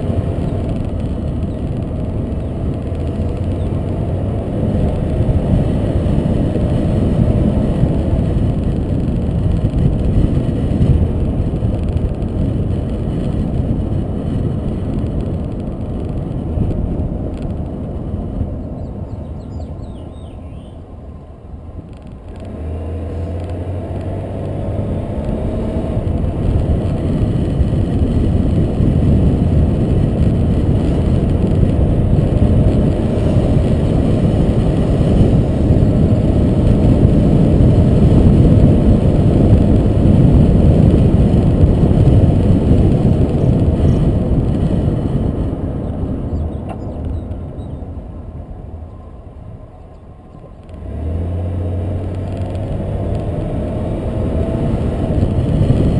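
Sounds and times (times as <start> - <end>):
car engine accelerating: 0.0 - 20.2, 21.9 - 49.1, 50.3 - 55.9
road and wind noise: 0.0 - 55.9.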